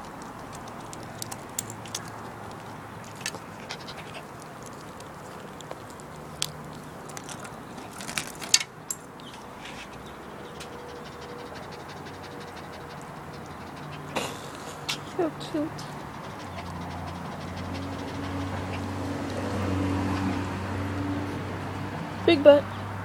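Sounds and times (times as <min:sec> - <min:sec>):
small dogs panting: 0:00.0 - 0:08.5, 0:09.5 - 0:22.2.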